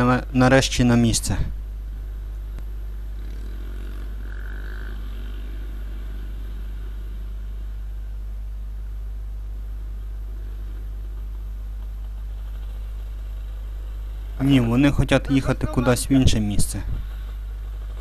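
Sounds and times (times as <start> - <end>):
motorcycle engine drone: 0.0 - 18.0
other motorcycles passing: 1.0 - 18.0.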